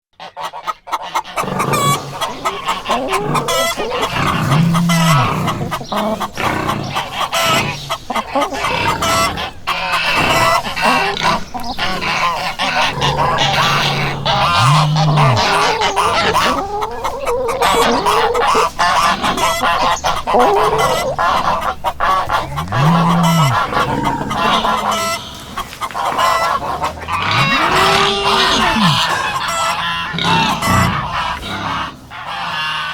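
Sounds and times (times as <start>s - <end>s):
chickens clucking: 0.2s - 32.9s
geese honking and cackling: 0.2s - 32.9s
low arching animal call: 1.2s - 32.9s.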